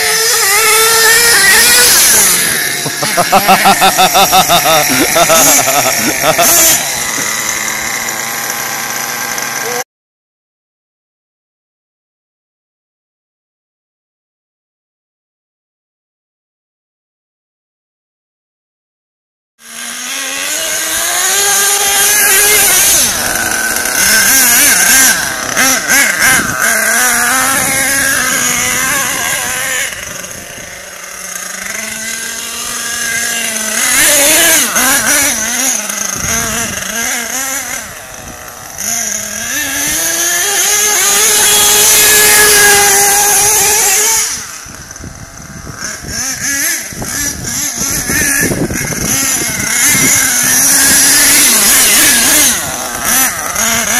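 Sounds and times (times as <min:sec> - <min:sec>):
small engine revving: 0:00.0 - 0:09.9, 0:19.6 - 0:53.9.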